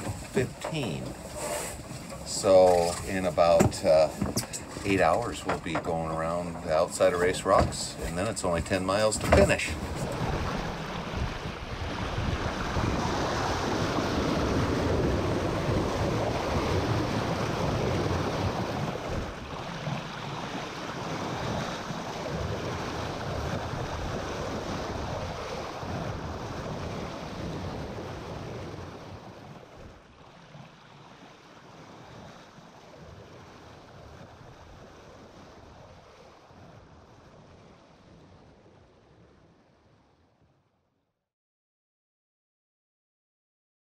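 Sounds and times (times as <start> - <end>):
wind on microphone: 0.0 - 39.7
water rushing along boat hull: 0.0 - 40.5.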